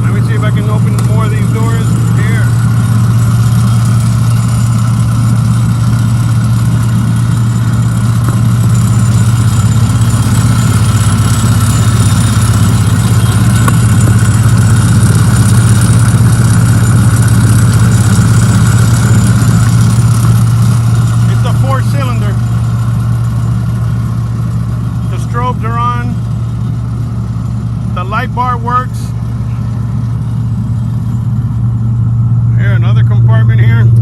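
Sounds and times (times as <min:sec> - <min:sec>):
diesel engine drone: 0:00.0 - 0:34.0.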